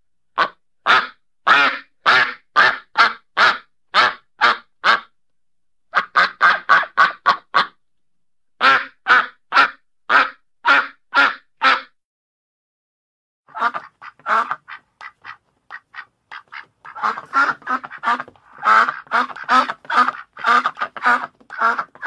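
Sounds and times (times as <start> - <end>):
duck quacking: 0.4 - 5.1, 5.9 - 7.8, 8.6 - 12.0, 13.5 - 22.0.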